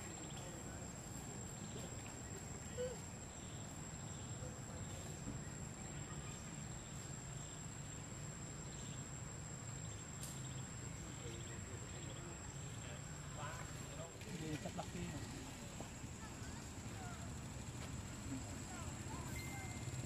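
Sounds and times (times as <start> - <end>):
insects droning and chirping: 0.0 - 20.0.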